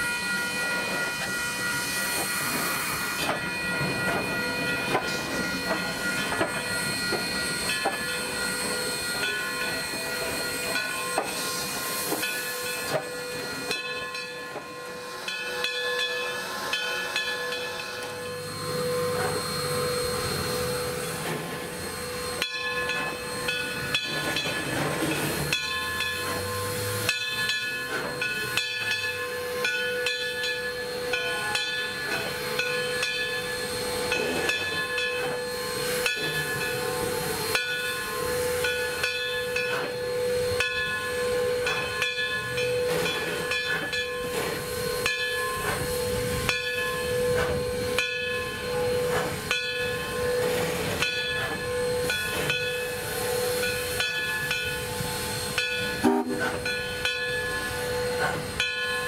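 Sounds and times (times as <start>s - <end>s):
locomotive bell ringing: 0.0s - 59.0s
steam hissing: 0.0s - 59.0s.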